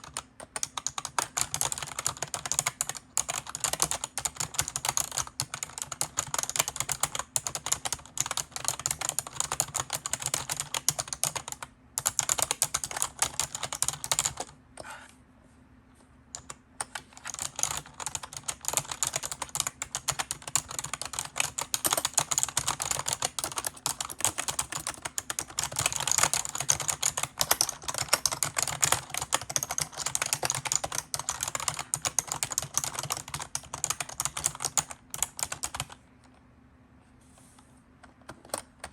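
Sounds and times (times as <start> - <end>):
fast typing on a keyboard: 0.0 - 14.5, 16.4 - 36.0.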